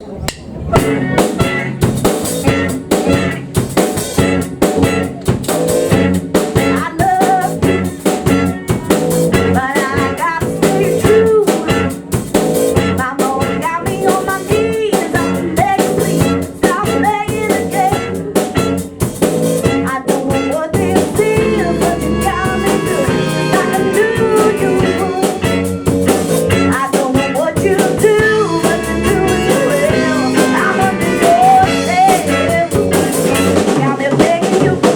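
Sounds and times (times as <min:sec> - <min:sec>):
drum kit beat: 0:00.3 - 0:34.9
live blues-rock band: 0:00.6 - 0:34.9.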